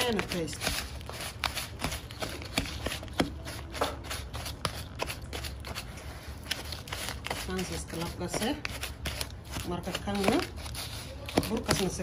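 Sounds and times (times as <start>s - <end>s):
fingers rubbing sugar in bowl: 0.0s - 12.0s.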